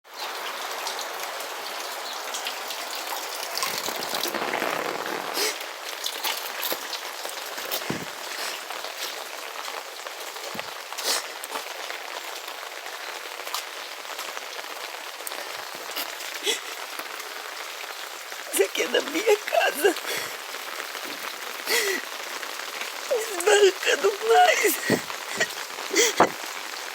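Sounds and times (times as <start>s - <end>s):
rain falling steadily: 0.0s - 26.9s
sharper raindrops tapping: 2.3s - 26.9s.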